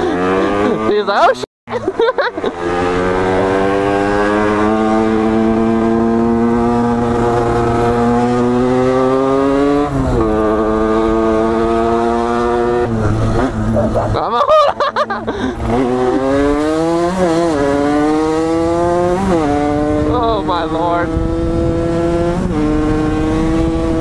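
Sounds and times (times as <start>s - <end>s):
motorcycle engine accelerating: 0.0s - 1.2s, 2.3s - 24.0s.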